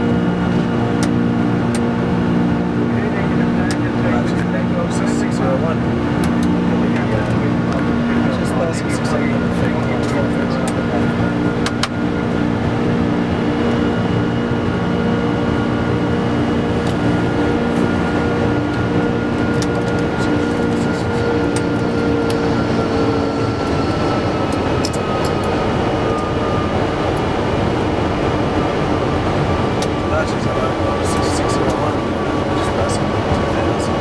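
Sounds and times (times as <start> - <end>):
rushing cockpit noise in flight: 0.0 - 34.0
steady hums: 0.0 - 34.0.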